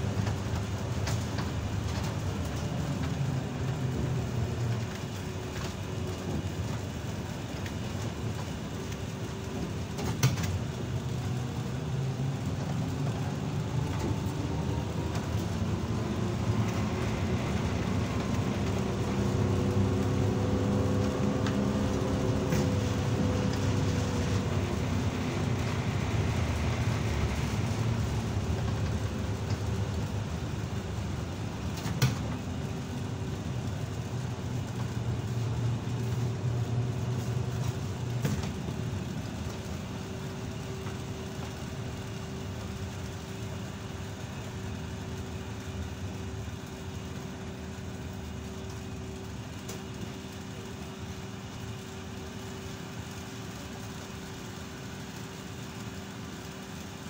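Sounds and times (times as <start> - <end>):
trolleybus rumble: 0.0 - 57.0.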